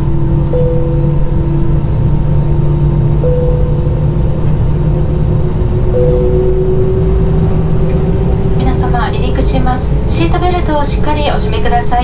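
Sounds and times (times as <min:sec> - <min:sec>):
jet engines humming in cabin: 0:00.0 - 0:12.0.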